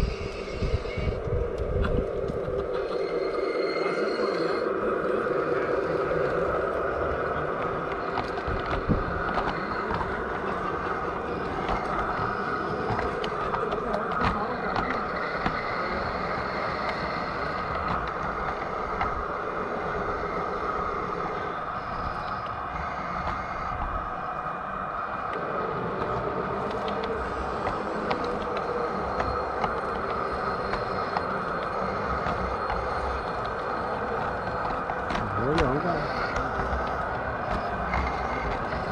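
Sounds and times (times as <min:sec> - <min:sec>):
model train whining: 0:00.0 - 0:38.9.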